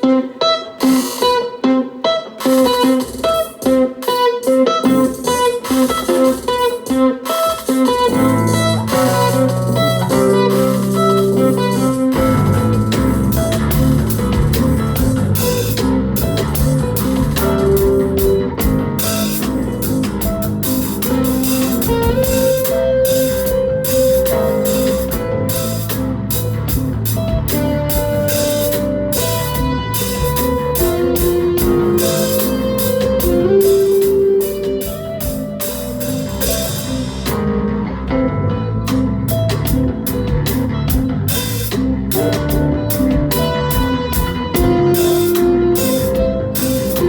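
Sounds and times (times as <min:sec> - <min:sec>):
busy drum kit pattern: 0:00.0 - 0:47.0
plucked stick riff: 0:00.0 - 0:47.0.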